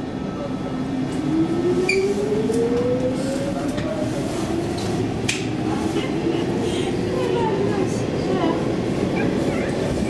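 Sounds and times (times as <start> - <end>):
train car rumble: 0.0 - 10.0.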